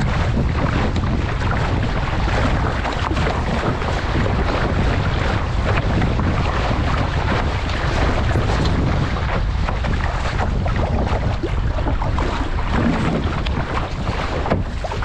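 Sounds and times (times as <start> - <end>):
water rushing along boat hull: 0.0 - 15.0
wind noise on microphone: 0.0 - 15.0.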